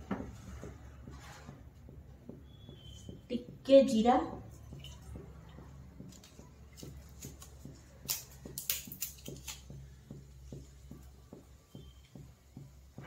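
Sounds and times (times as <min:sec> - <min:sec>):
seeds popping in hot oil: 0:01.8 - 0:13.0.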